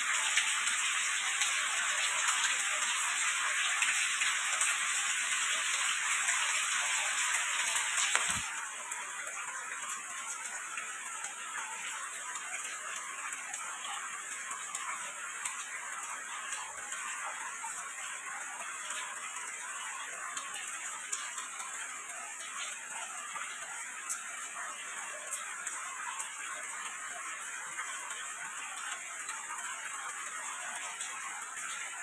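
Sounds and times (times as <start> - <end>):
light rain falling: 0.0 - 32.0
small drip ticks: 0.1 - 32.0.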